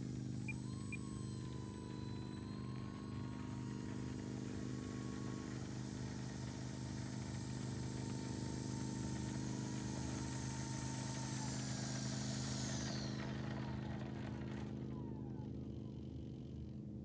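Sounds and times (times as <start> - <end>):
electric motor and propeller whine: 0.0 - 17.0.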